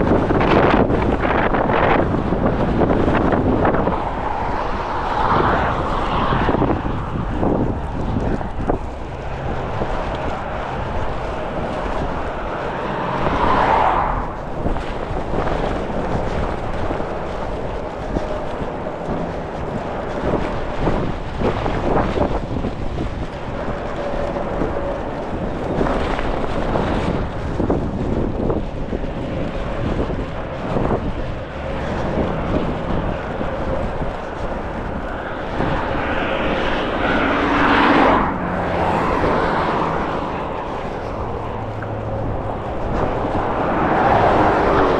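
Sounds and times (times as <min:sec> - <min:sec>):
gusty wind buffeting microphone: 0:00.0 - 0:44.9.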